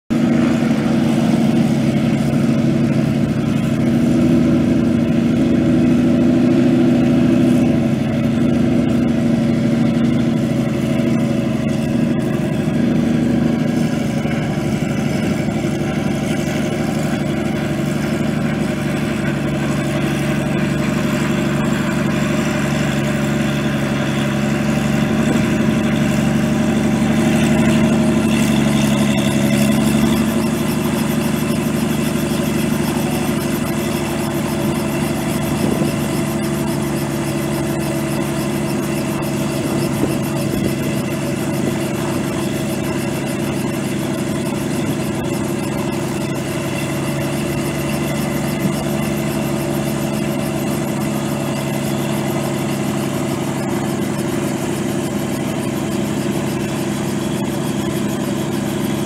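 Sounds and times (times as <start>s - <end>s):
helicopter piston engine running: 0.1s - 59.0s
helicopter rotor turning: 0.1s - 59.0s.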